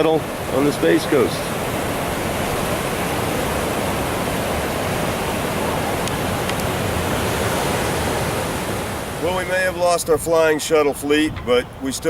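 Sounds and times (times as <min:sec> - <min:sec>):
ocean surf rushing: 0:00.0 - 0:12.0
wind on microphone: 0:00.0 - 0:12.0.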